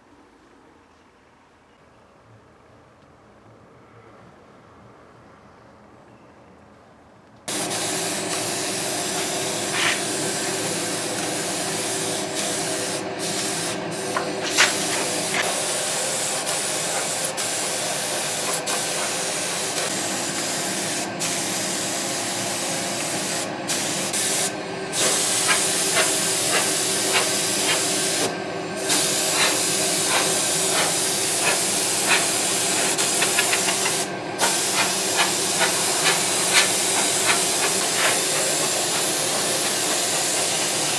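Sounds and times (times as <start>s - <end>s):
spray gun hissing: 7.5s - 40.9s.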